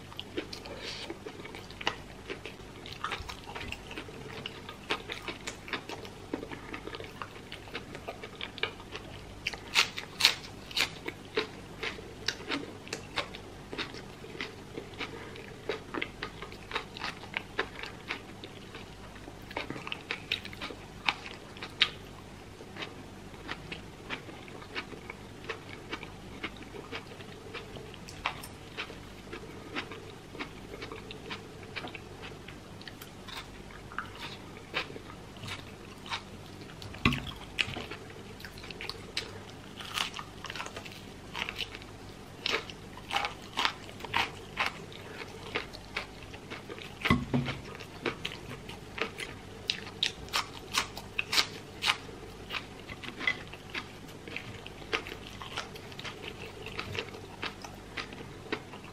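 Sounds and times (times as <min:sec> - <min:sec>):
crunchy chewing of fried food: 0:00.0 - 0:58.9.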